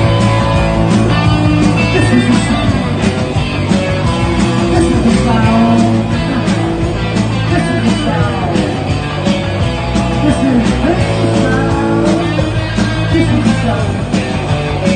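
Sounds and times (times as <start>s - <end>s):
bass guitar: 0.0s - 14.9s
electric guitars: 0.0s - 14.9s
steady drum beat: 0.0s - 14.9s.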